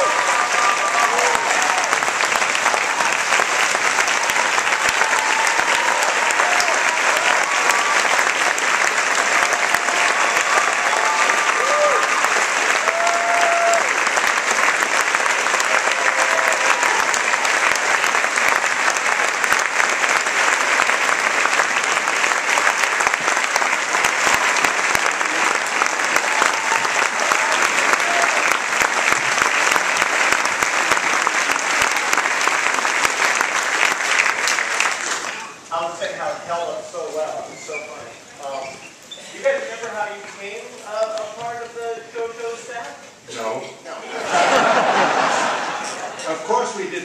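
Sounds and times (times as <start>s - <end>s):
audience applauding: 0.0s - 36.0s, 44.2s - 46.9s.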